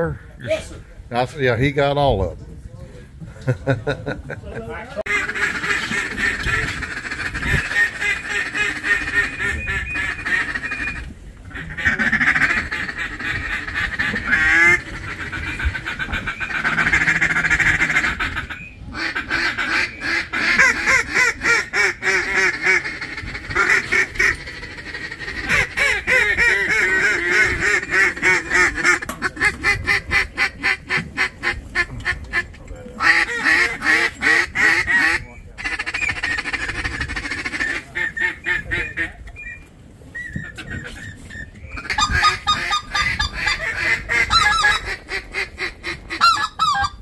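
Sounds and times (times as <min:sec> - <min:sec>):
waterfowl quacking and honking: 0:05.0 - 0:39.6, 0:40.2 - 0:47.0.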